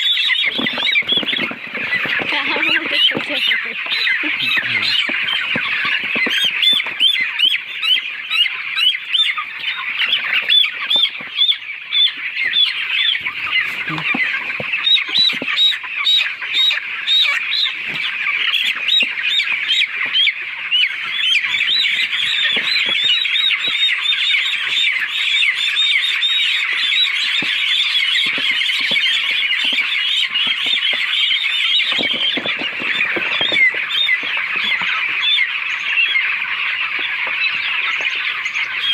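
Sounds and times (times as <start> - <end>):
flock of poultry calling: 0.0 - 38.9.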